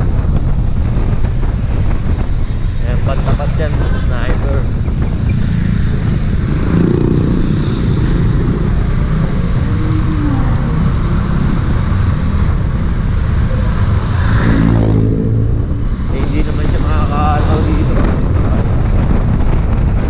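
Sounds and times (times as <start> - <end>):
heavy traffic rumble: 0.0 - 20.0.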